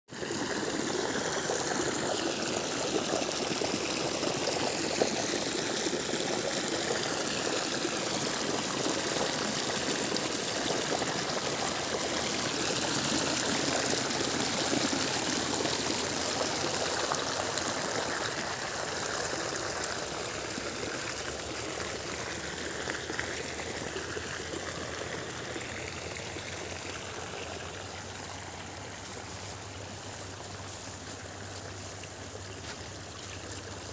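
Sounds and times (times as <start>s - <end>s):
water running in a channel: 0.1s - 33.9s.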